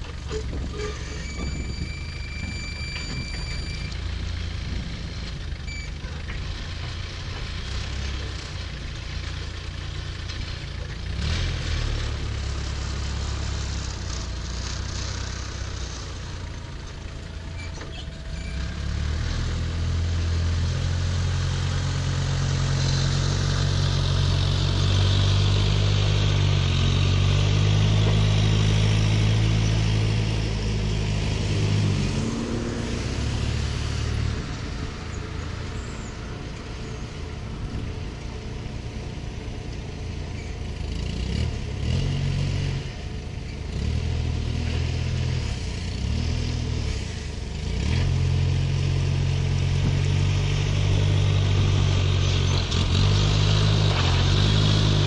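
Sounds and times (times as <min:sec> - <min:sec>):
heavy vehicle engine running: 0:00.0 - 0:55.0.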